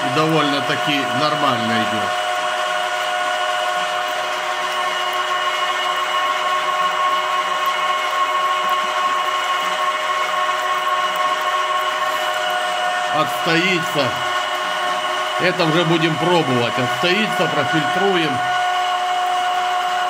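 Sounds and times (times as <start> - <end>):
oil press mechanical whine: 0.0 - 20.0.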